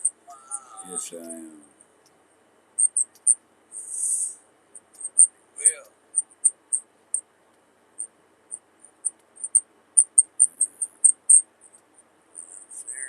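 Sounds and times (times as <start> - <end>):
cricket chirping: 0.0 - 2.2, 2.8 - 7.2, 8.0 - 13.0.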